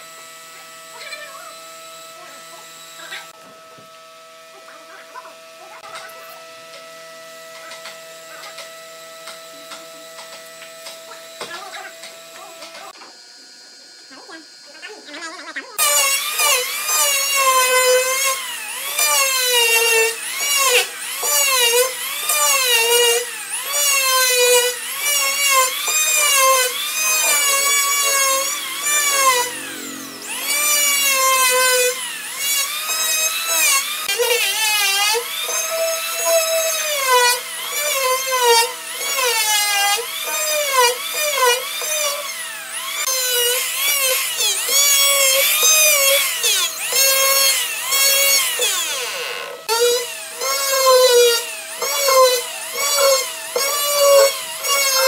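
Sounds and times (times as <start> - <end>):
electric planer whining on wood: 0.0 - 55.0.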